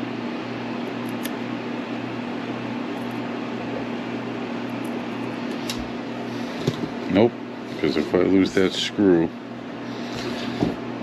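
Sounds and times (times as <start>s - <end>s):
fan-like hiss: 0.0s - 11.0s
low constant hum: 0.0s - 11.0s.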